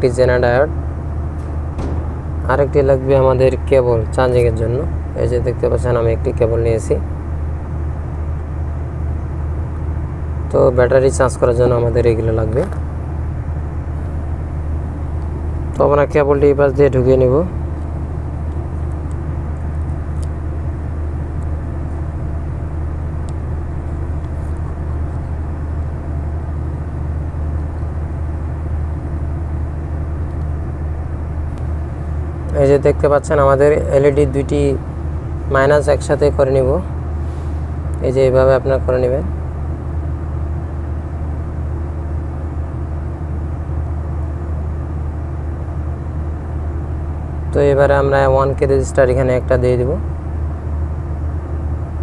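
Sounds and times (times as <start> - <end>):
low background rumble: 0.0 - 52.0.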